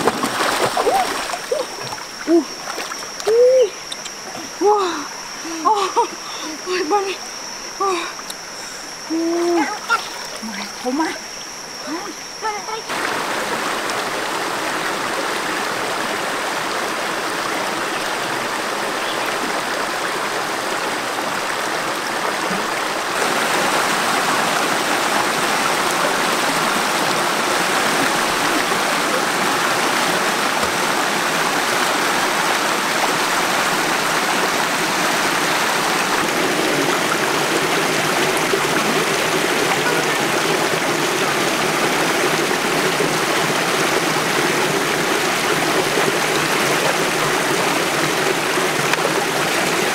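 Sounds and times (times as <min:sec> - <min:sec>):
stream rushing over stones: 0:00.0 - 0:07.6, 0:08.8 - 0:49.9.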